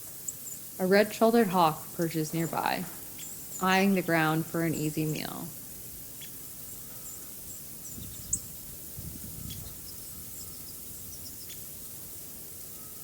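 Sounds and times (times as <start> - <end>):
outdoor hiss: 0.0 - 13.0
songbirds chirping: 0.0 - 13.0.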